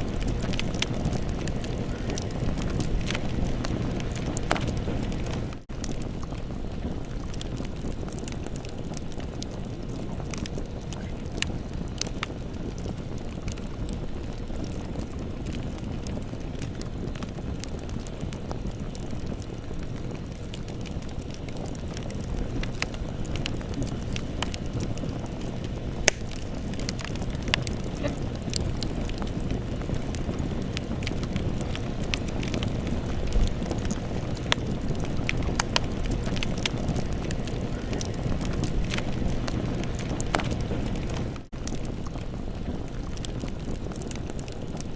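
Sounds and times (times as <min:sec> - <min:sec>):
campfire burning and crackling: 0:00.0 - 0:44.9.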